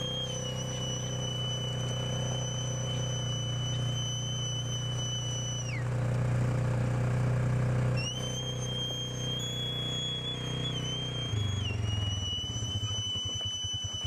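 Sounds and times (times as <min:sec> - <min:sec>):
steady high tone gliding down: 0:00.0 - 0:05.8, 0:08.0 - 0:14.0
vehicle engine running: 0:00.0 - 0:14.0.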